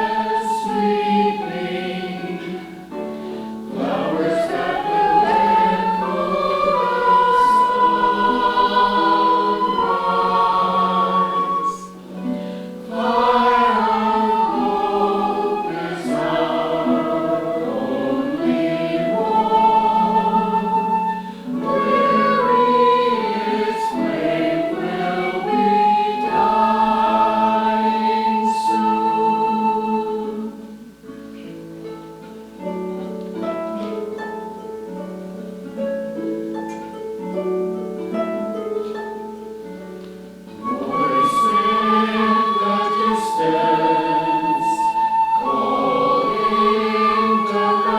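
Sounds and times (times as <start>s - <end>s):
choir singing: 0.0s - 32.0s, 40.5s - 47.9s
instrumental accompaniment: 0.0s - 47.9s.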